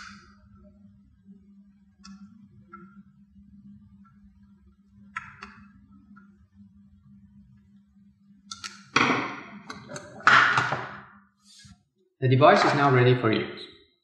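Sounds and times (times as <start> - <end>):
faint low hum: 0.0 - 13.8.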